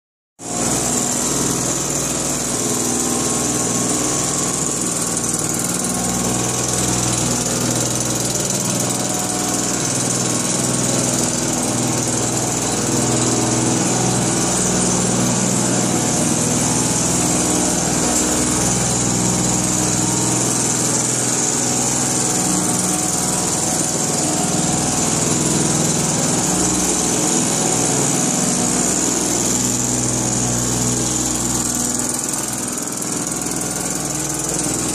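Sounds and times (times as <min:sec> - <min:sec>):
mist blower engine drone: 0:01.0 - 0:34.9.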